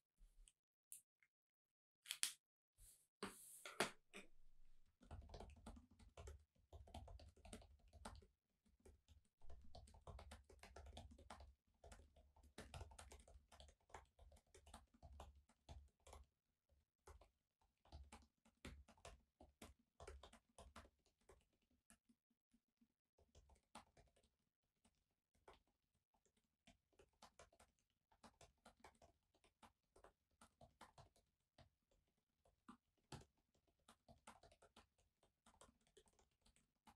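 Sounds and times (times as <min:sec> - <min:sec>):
typing on laptop keyboard: 0:04.9 - 0:16.4, 0:17.0 - 0:22.2, 0:22.8 - 0:36.9.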